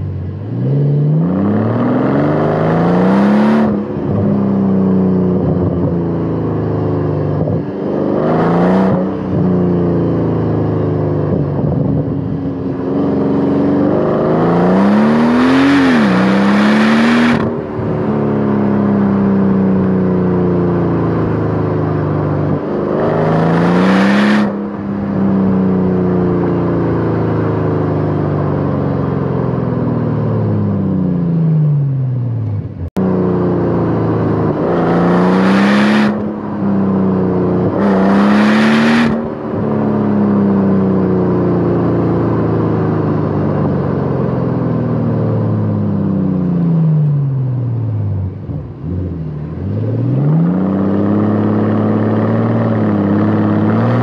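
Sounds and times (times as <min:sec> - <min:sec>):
car engine revving: 0:00.0 - 0:29.2, 0:30.1 - 0:54.0.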